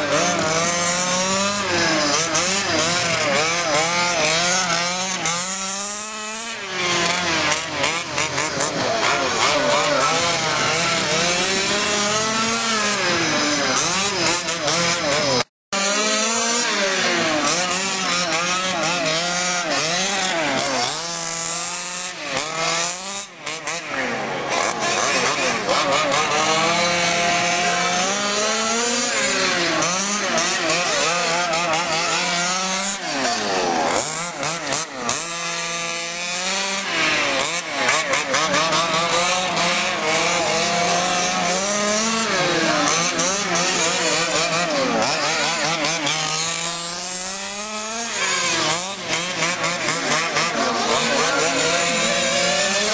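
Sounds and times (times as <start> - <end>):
small two-stroke engines revving: 0.0 - 52.9.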